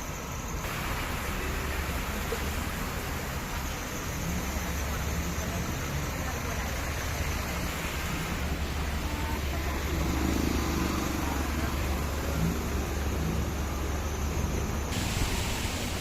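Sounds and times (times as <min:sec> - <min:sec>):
vehicle rumble and road noise: 0:00.0 - 0:16.0.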